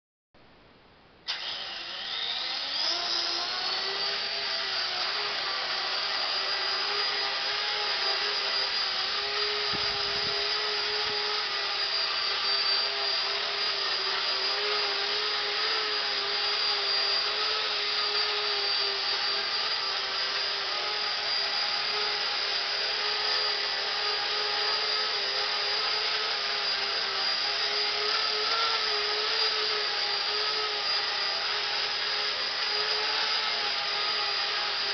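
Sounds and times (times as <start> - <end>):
rc helicopter motor whine: 1.3 - 34.9.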